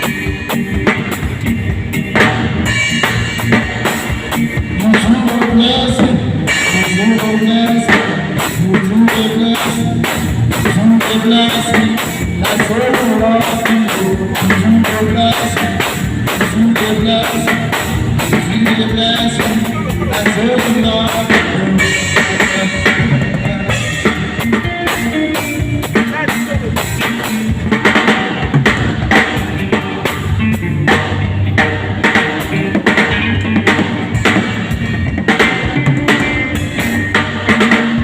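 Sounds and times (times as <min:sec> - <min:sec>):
drum kit playing a beat: 0:00.0 - 0:38.0
recorded music: 0:00.0 - 0:38.0.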